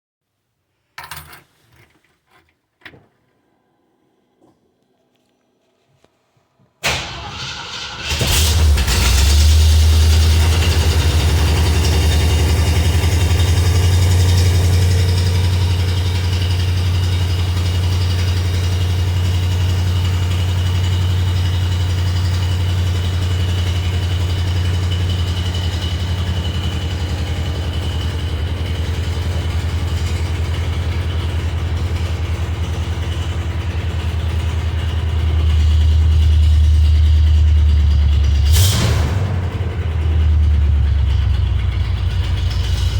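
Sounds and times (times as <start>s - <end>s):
car engine idling: 6.8s - 42.9s.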